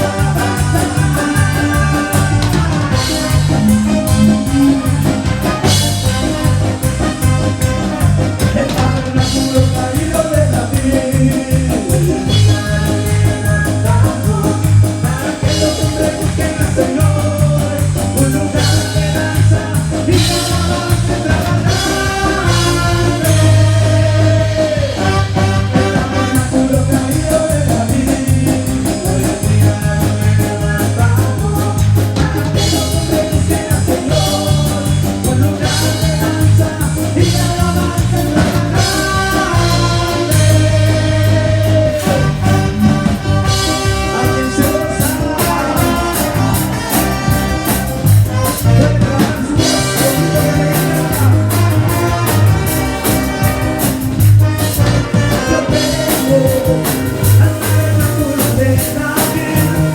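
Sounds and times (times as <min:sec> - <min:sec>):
live band playing praise song: 0:00.0 - 0:59.9
person singing: 0:00.0 - 0:59.9.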